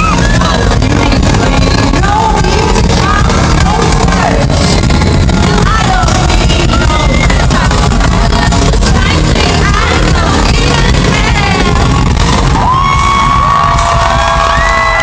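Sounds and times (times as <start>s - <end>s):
person singing: 0.0s - 12.2s
pop music with heavy bass: 0.0s - 15.0s.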